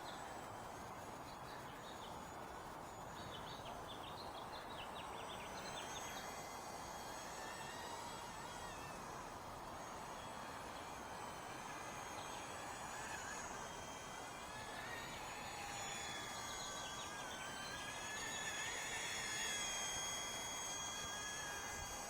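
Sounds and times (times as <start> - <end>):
rc helicopter motor whine: 0.0 - 22.0.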